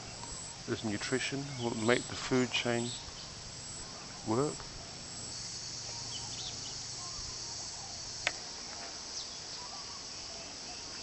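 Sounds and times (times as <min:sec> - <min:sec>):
faint bird chirps: 0:00.0 - 0:11.0
insects chorus: 0:00.0 - 0:11.0.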